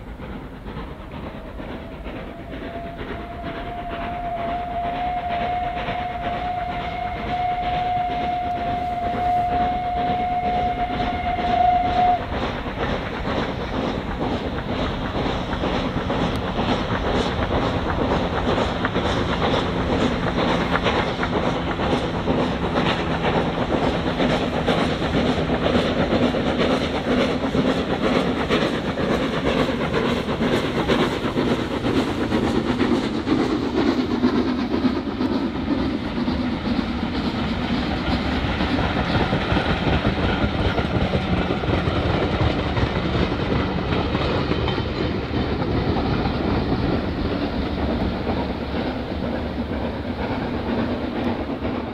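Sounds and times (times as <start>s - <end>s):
train rumbling on tracks: 0.0s - 51.9s
wheels clacking over rail joints: 0.0s - 51.9s.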